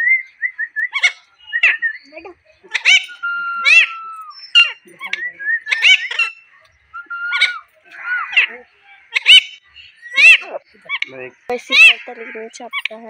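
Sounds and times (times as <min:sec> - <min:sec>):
whistled bird notes: 0:00.0 - 0:12.0
parakeet chirping: 0:00.8 - 0:13.0
harsh parakeet squawk: 0:00.9 - 0:01.8, 0:02.7 - 0:12.9.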